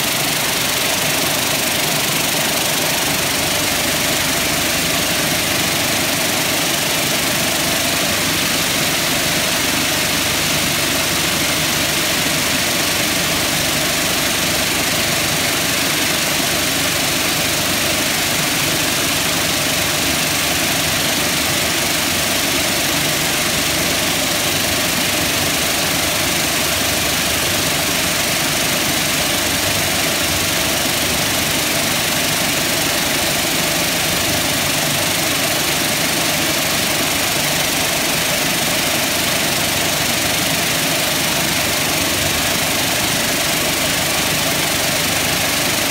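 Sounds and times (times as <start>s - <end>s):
vibratory finishing machine running: 0.0s - 45.9s.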